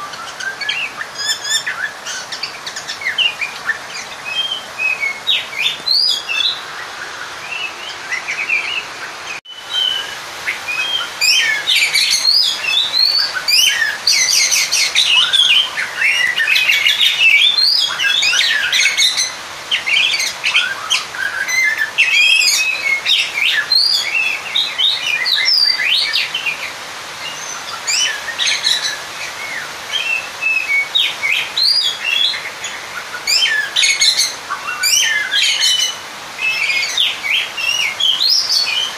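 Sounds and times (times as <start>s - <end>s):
songbird singing chirps and trills: 0.0s - 38.9s.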